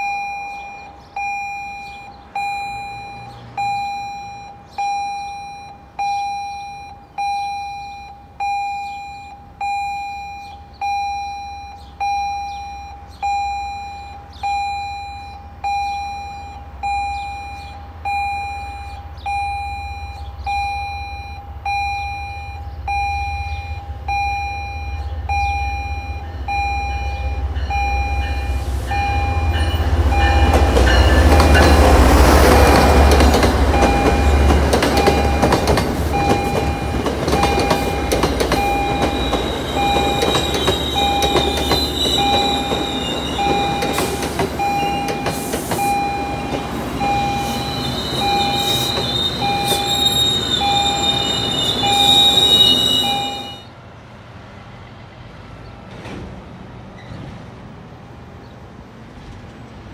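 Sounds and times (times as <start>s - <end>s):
crossing warning bell dinging: 0.0s - 53.8s
diesel train approaching: 0.0s - 59.9s.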